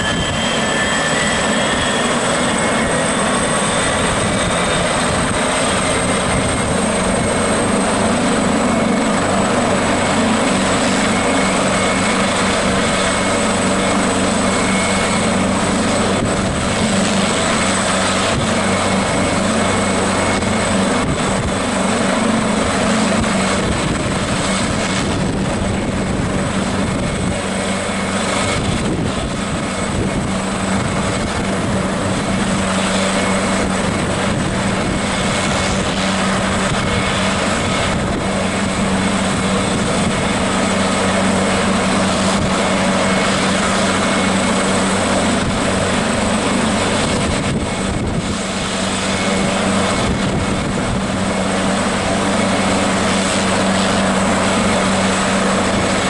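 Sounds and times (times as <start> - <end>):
helicopter rotor thrum: 0.0 - 56.0
high turbine whine: 0.0 - 56.0.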